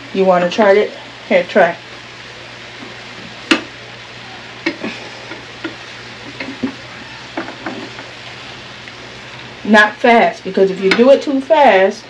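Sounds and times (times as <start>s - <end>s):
meat sizzling in a frying pan: 0.1s - 12.0s.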